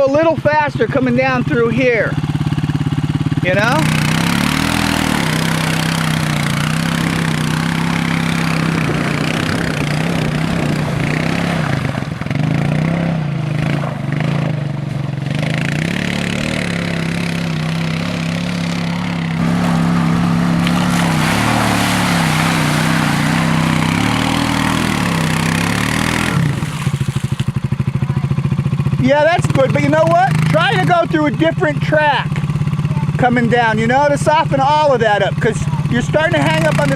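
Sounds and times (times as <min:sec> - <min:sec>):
quad engine revving: 0:00.0 - 0:36.9.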